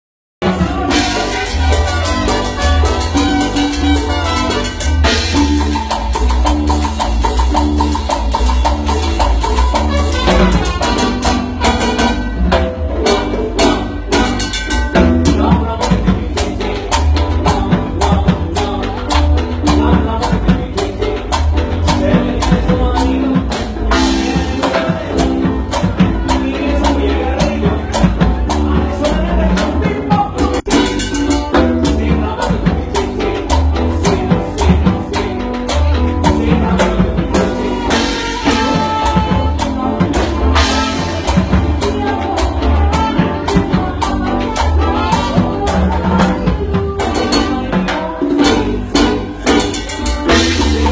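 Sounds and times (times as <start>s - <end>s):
person singing: 0.4s - 6.5s, 9.0s - 50.9s
drum kit and hand percussion: 0.4s - 50.9s
latin dance band playing: 0.4s - 50.9s.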